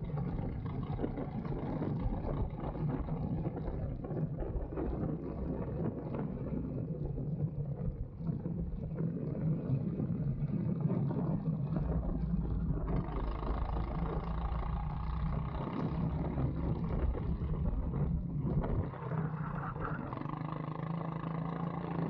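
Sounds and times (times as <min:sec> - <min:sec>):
wind on microphone: 0:00.0 - 0:20.9
go-kart engine running: 0:00.0 - 0:22.0.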